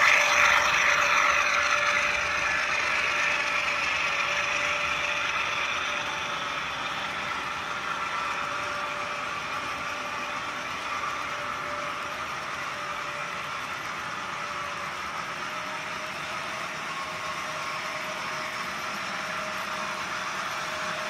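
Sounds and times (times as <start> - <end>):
model train rolling on track: 0.0 - 21.0.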